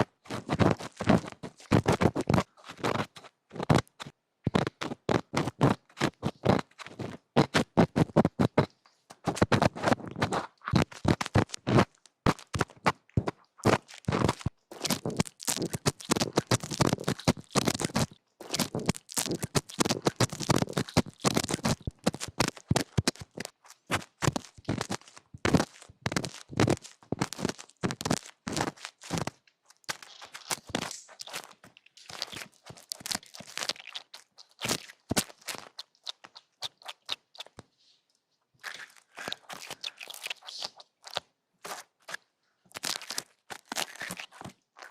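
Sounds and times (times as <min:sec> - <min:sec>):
ear cleaning scratching and clicks: 0:00.3 - 0:37.6, 0:38.6 - 0:44.9.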